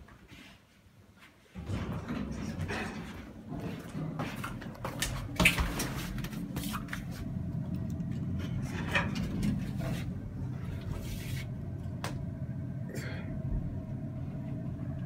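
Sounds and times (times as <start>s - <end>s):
elevator rumble: 1.6s - 15.0s.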